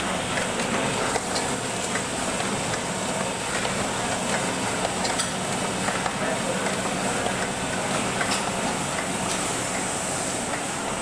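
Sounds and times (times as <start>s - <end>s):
printing press hiss and rumble: 0.0s - 11.0s.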